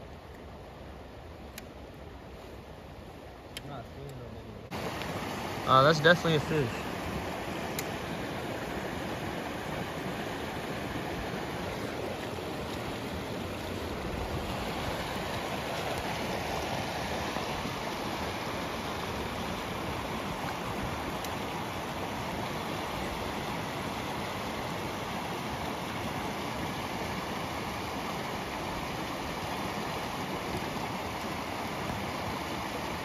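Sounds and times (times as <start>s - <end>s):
river rushing over rapids: 4.6s - 33.0s.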